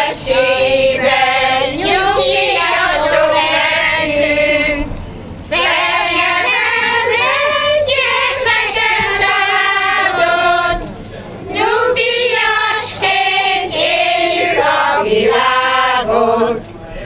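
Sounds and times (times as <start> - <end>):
women's choir singing: 0.0 - 16.7.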